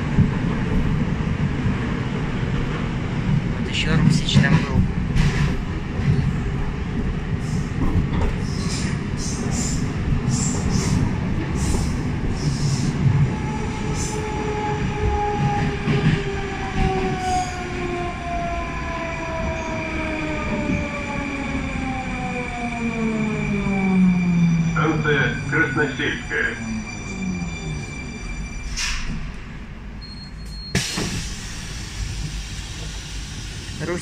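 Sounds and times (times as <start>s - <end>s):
train wheel rumble: 0.0s - 24.2s, 30.8s - 34.0s.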